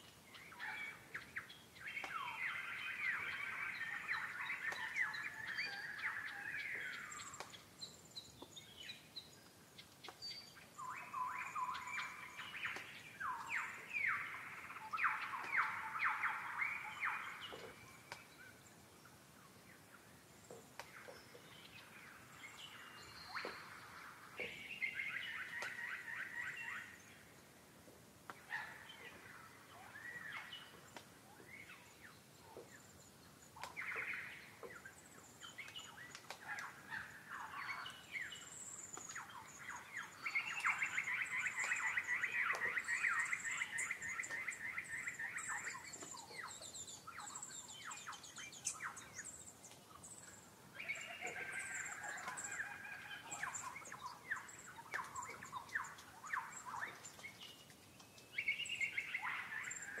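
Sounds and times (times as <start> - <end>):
birds chirping and singing: 0.0 - 27.5, 28.3 - 60.0.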